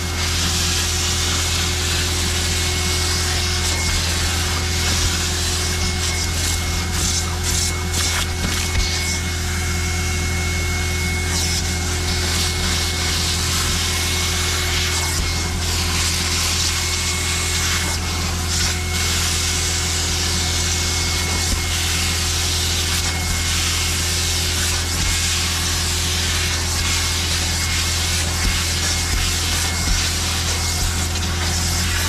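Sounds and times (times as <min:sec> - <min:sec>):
vacuum motor whining: 0:00.0 - 0:32.0.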